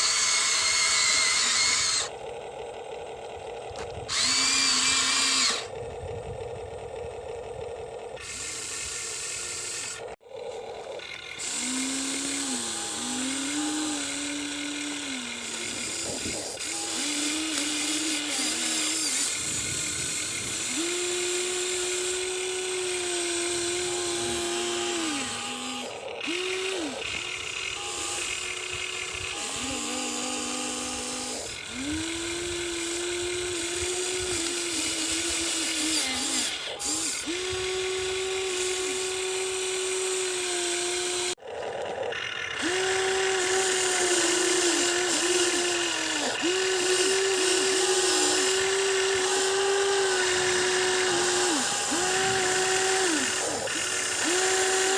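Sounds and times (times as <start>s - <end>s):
electric gear motors whining: 0.0s - 54.9s.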